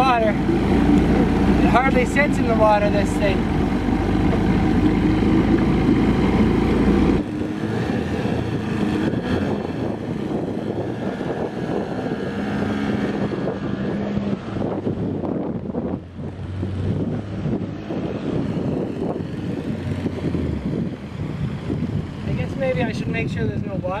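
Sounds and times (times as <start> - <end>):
outboard motor running: 0.0 - 23.9.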